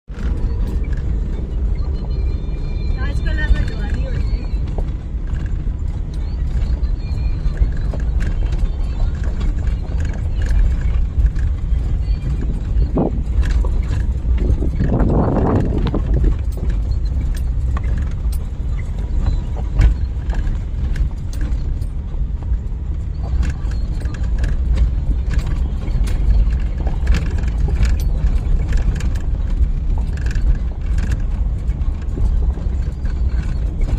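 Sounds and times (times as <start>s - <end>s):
vehicle rumbling on rough road: 0.0s - 33.9s
knocks and rattles: 3.5s - 33.9s.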